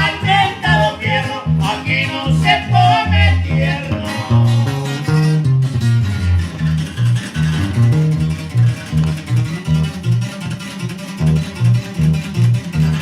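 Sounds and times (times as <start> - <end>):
bouncing bass line: 0.0 - 10.6, 11.2 - 13.0
strummed guitars: 0.0 - 13.0.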